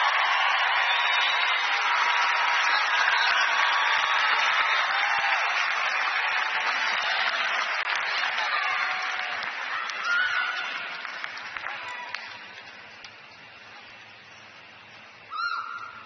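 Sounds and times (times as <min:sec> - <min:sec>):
crowd applauding and cheering: 0:00.0 - 0:16.0.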